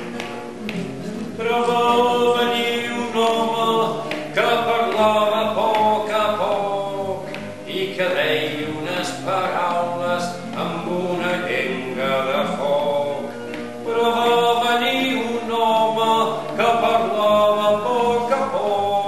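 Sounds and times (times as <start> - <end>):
acoustic guitar: 0.0 - 19.0
man singing: 0.9 - 19.0.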